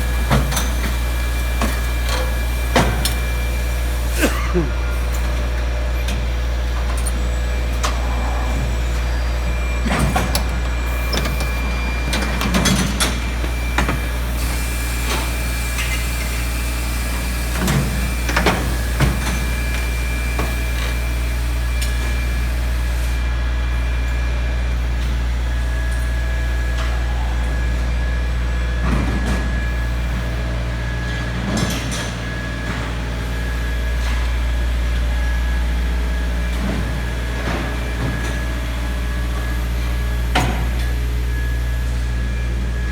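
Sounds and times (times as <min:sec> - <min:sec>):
faint machine whines: 0:00.0 - 0:42.9
machinery humming: 0:00.0 - 0:42.9.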